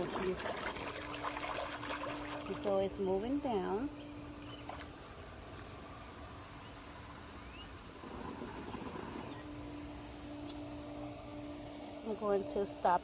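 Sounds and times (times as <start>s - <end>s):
low motor hum: 0.0s - 13.0s
pool water noise: 0.0s - 13.0s.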